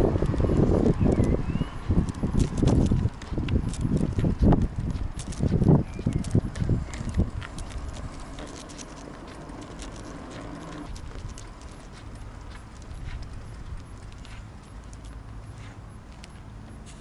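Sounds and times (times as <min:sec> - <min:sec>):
bicycle basket clicking and rattling: 0:00.0 - 0:17.0
low rumble of riding: 0:00.0 - 0:17.0.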